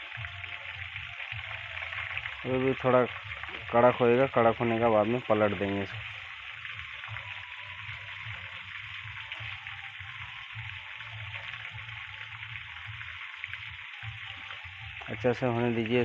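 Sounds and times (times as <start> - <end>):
food deep-frying in hot oil: 0.0 - 16.0.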